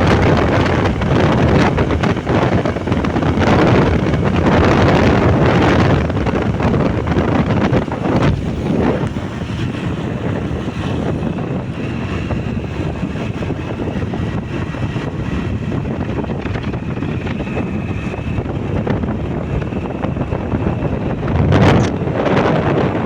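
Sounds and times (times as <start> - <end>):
road and motorbike engine noise: 0.0 - 23.0
wind rushing over microphone: 0.0 - 23.0.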